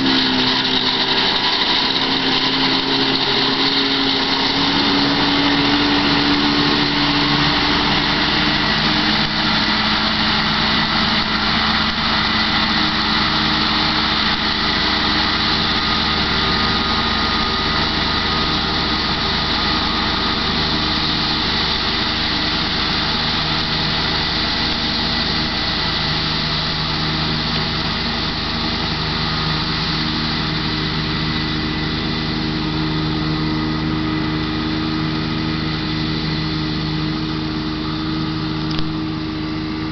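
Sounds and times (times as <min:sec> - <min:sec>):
disc mower cutting hay: 0:00.0 - 0:39.9
tractor engine running: 0:00.0 - 0:39.9.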